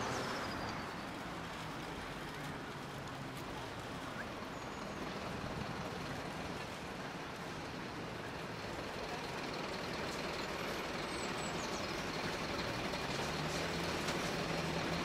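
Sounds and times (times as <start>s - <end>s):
distant city traffic: 0.0s - 15.0s.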